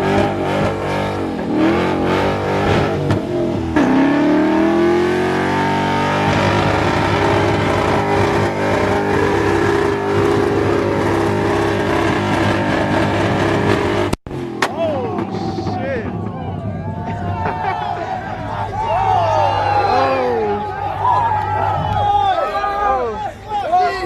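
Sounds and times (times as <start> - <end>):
car engine accelerating: 0.0 - 22.4.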